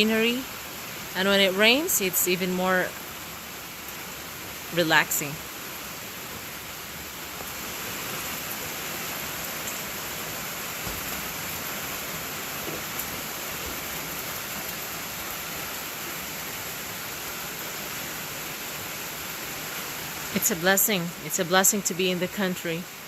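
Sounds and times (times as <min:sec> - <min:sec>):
rain pattering on a roof: 0:00.0 - 0:23.0.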